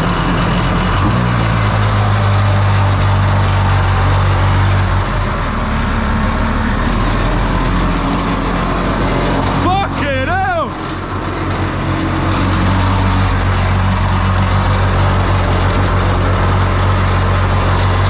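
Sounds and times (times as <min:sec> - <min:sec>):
jet boat engine running: 0:00.0 - 0:18.0.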